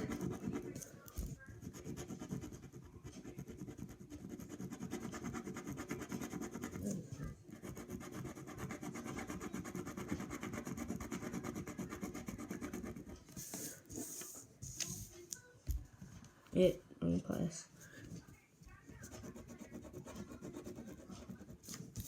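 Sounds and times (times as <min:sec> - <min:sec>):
pencil scratching on paper: 0:00.0 - 0:15.2, 0:18.8 - 0:22.0.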